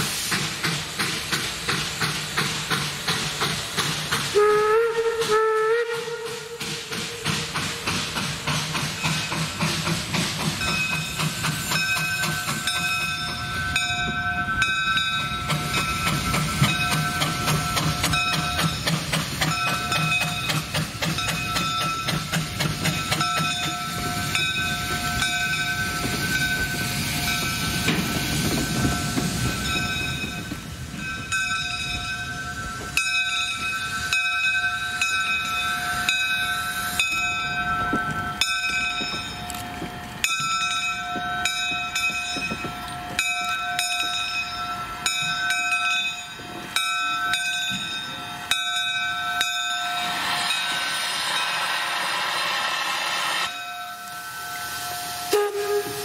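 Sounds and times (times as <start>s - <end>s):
low train rumble: 0.0s - 56.0s
train wheels clicking over rail joints: 0.0s - 56.0s.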